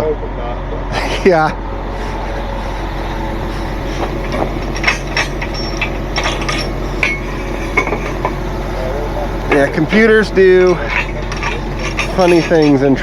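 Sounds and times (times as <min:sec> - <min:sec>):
truck engine idling: 0:00.3 - 0:13.0
metallic clanks and clinks: 0:02.4 - 0:13.0.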